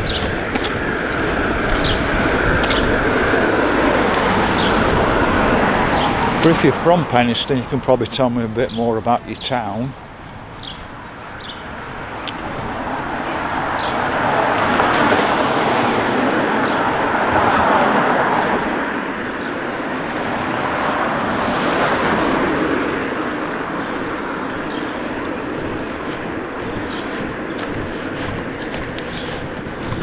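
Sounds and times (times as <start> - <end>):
cars driving past: 0.0 - 30.0.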